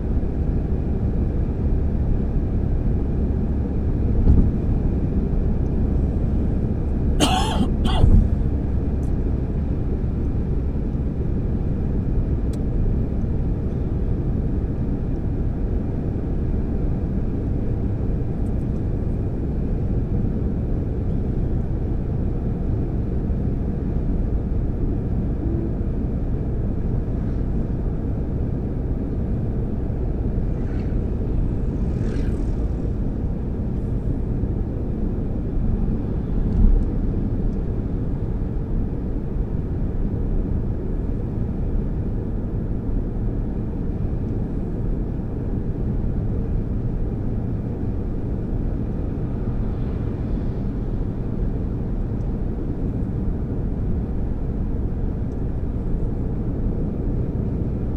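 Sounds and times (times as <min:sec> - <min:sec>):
car tyres and engine rumble: 0:00.0 - 0:57.9.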